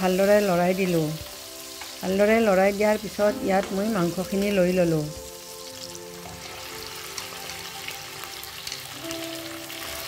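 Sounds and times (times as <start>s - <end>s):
food sizzling in oil: 0.0s - 10.0s
soft background music: 0.0s - 10.0s.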